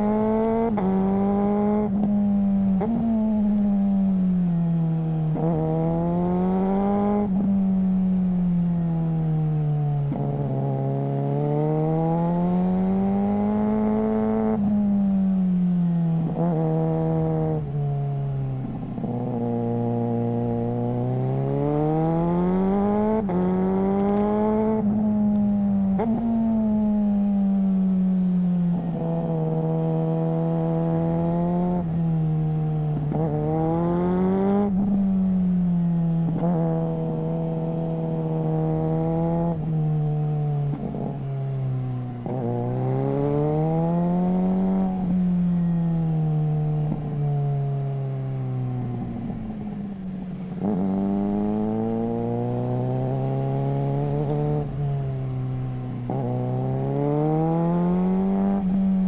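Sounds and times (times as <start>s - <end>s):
motorcycle engine revving: 0.0s - 8.1s, 10.0s - 59.0s.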